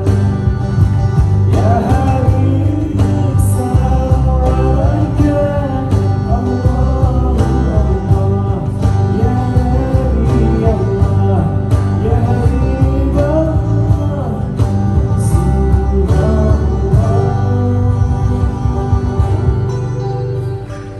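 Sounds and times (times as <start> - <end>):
live band playing: 0.0 - 20.9
pitch-bending melody line: 0.0 - 20.9.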